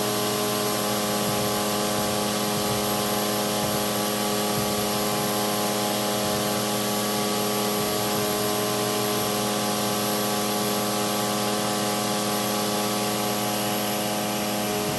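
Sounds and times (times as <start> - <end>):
machining center humming with whine: 0.0 - 14.9.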